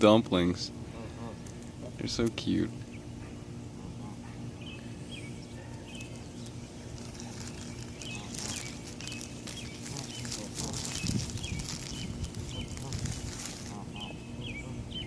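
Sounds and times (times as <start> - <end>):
steady low hum: 0.0 - 15.0
goslings peeping: 0.8 - 15.0.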